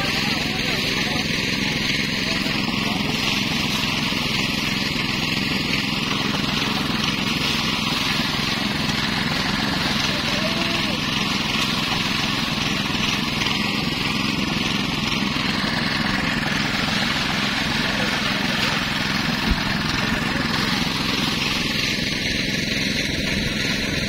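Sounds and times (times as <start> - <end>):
grain spraying out: 0.0 - 24.0
small gasoline engine running: 0.0 - 24.0.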